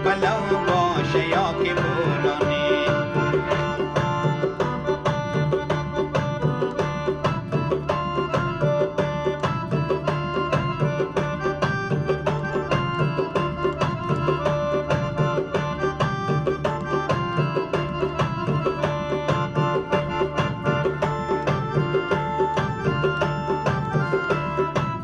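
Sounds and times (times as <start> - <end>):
song playing as background music: 0.0 - 25.0
steady percussion beat: 0.0 - 25.0.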